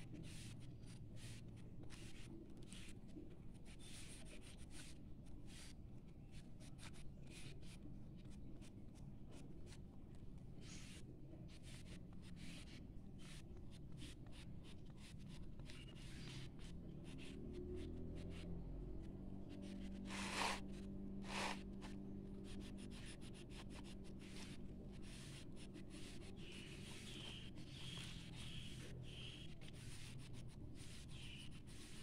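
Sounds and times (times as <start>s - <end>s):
oil pastel scribbling on paper: 0.1s - 3.0s, 3.6s - 8.7s, 10.6s - 32.0s.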